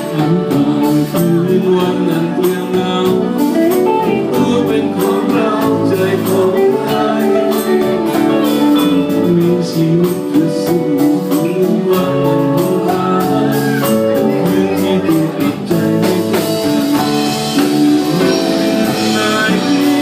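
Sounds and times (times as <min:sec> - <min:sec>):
guitar: 0:00.0 - 0:20.0
steady drum beat: 0:00.0 - 0:20.0.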